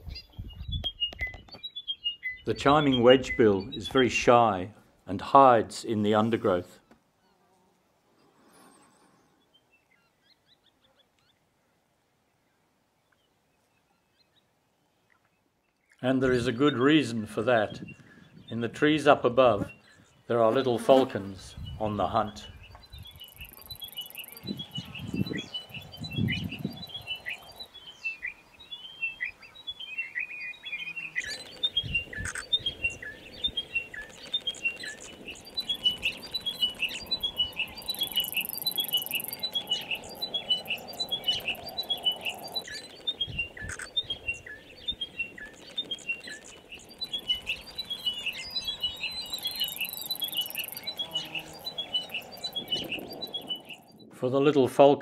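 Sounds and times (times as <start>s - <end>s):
small birds chirping: 0.0s - 4.5s, 6.2s - 54.2s.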